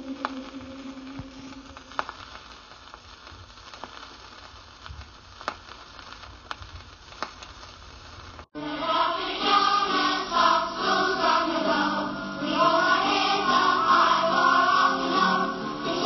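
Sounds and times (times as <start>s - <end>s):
old recording hiss and crackle: 0.0s - 16.0s.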